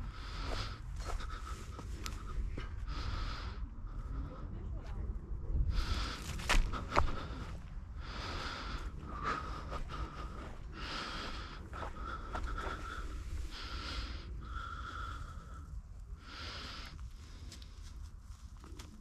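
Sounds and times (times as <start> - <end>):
person nasal breathing: 0.0 - 4.2, 5.6 - 18.0
steady low rumble: 0.0 - 19.0.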